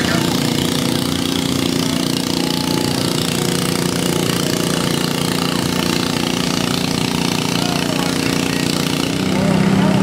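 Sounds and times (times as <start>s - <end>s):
tractor engine running hard: 0.0s - 10.0s.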